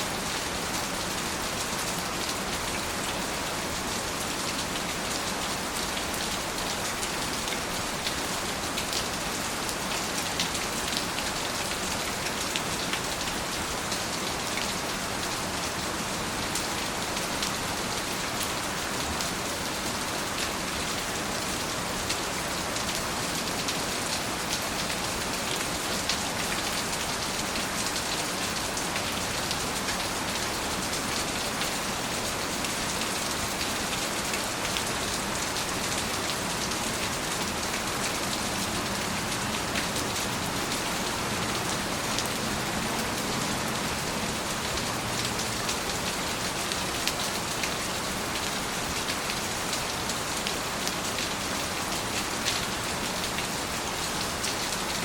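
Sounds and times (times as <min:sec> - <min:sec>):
rain pattering on surfaces: 0:00.1 - 0:55.0.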